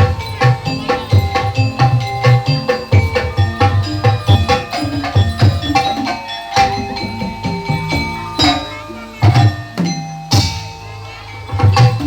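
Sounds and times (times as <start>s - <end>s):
hand drums: 0.0s - 12.0s
ringing struck metal percussion: 0.0s - 12.0s.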